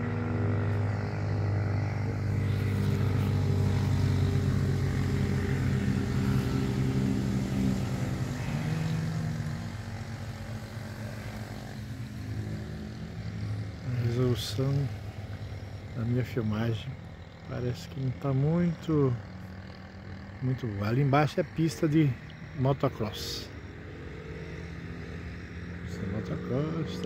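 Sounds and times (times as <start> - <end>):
passing engine drone: 0.0 - 27.0.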